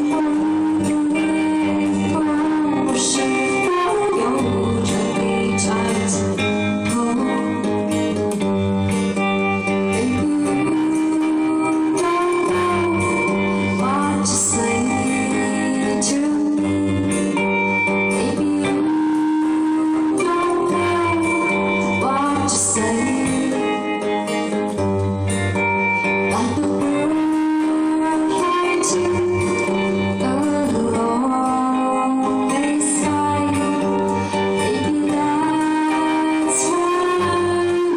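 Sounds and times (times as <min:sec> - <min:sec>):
woman singing long notes: 0:00.0 - 0:08.1, 0:09.9 - 0:24.5, 0:26.3 - 0:37.9
acoustic pop music with guitar: 0:00.0 - 0:37.9.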